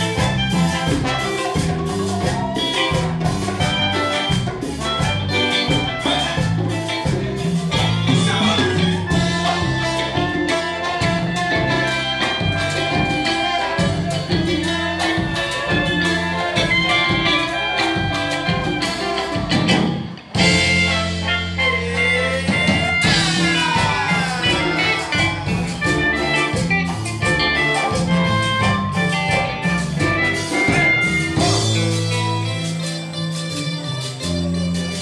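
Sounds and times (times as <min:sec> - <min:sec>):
live band playing upbeat song: 0:00.0 - 0:35.0.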